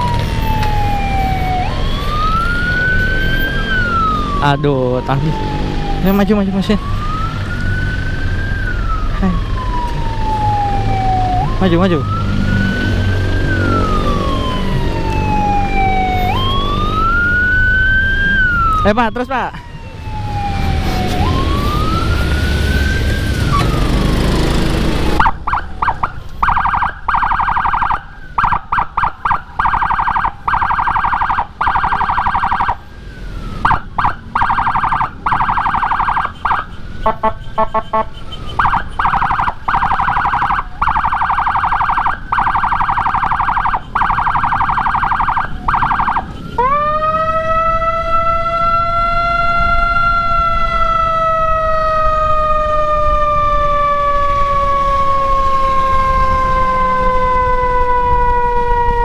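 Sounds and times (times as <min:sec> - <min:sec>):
electronic siren wailing and warbling: 0:00.0 - 0:59.0.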